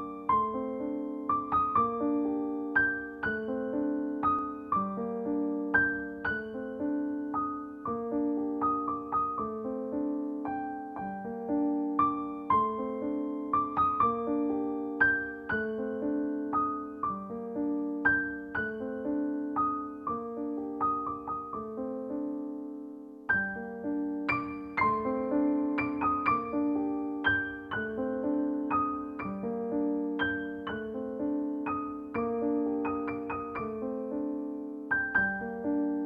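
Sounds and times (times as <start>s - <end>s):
gentle piano melody: 0.0s - 36.0s.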